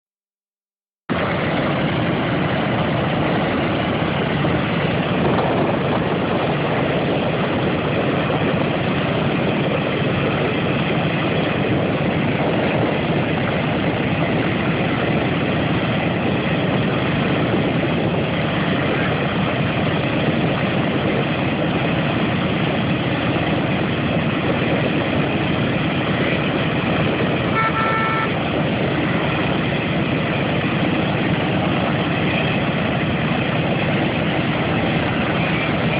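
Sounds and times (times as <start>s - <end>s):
aircraft radial engines running: 1.1s - 35.9s.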